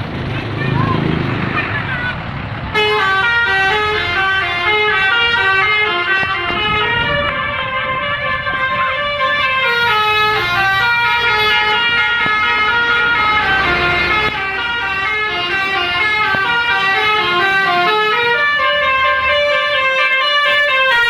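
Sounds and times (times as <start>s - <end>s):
multi-tone air horn melody: 2.7s - 21.0s.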